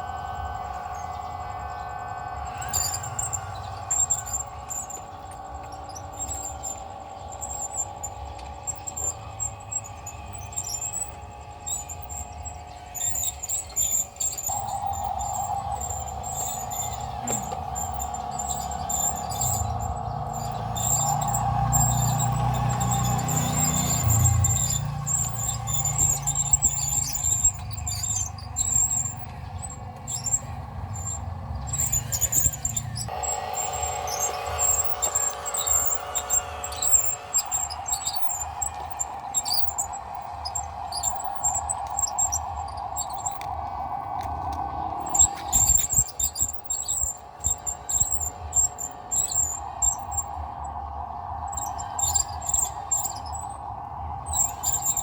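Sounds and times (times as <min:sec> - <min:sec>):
crickets chirping: 0:00.0 - 0:55.0
low rumble: 0:00.0 - 0:55.0
mid-pitched drone: 0:00.0 - 0:55.0.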